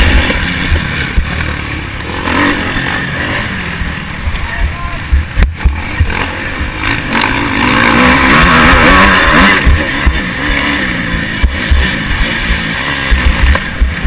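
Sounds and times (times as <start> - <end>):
motocross bike engine revving: 0.0 - 14.0.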